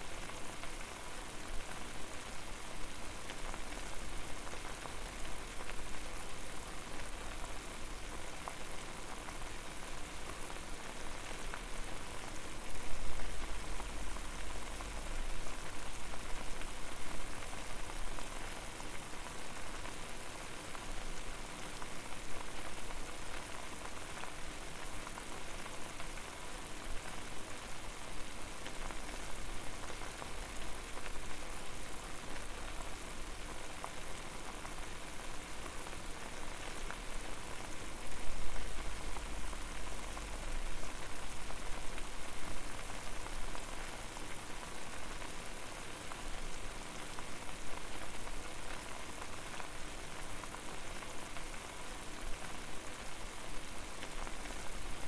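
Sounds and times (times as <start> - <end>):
water boiling: 0.0 - 55.0.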